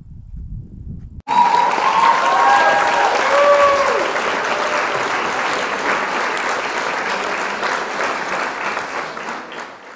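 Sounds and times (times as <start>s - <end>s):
crowd applauding: 1.3s - 9.9s.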